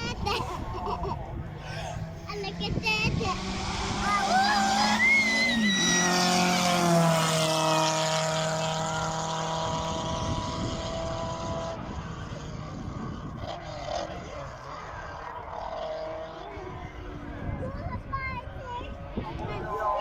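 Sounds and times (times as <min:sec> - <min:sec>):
race car engine passing: 0:00.1 - 0:20.0.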